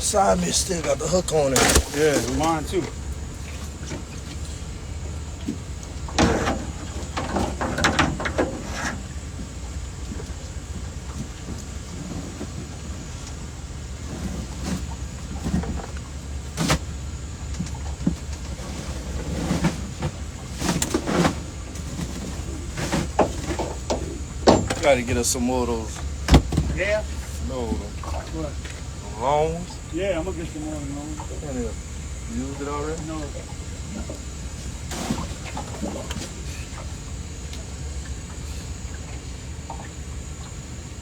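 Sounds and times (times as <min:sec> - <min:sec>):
fish and gear handled in boat: 0:00.0 - 0:41.0.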